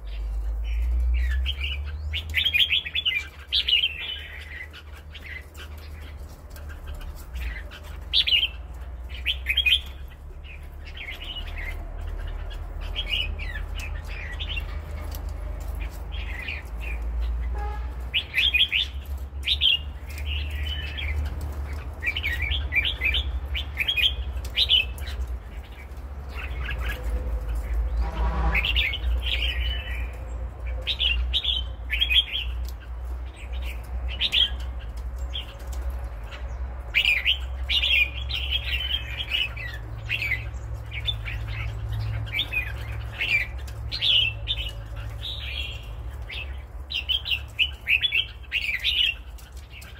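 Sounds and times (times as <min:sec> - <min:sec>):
bird singing chirpy phrases: 0:00.0 - 0:49.9.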